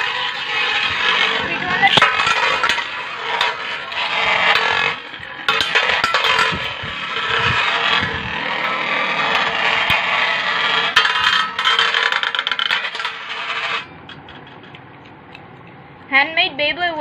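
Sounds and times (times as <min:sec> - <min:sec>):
spinning tops whirring on metal: 0:00.0 - 0:15.6
spinning tops clacking: 0:00.0 - 0:15.8.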